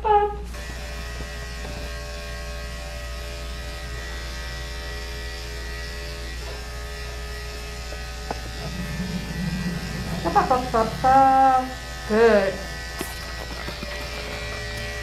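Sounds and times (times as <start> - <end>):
electric clipper humming: 0.0 - 15.0.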